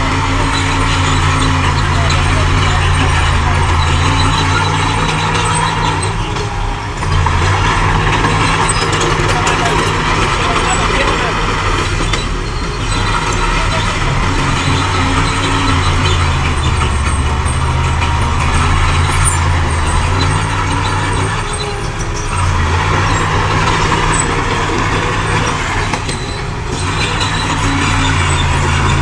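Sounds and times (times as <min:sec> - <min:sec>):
heavy diesel engine droning: 0:00.0 - 0:29.0.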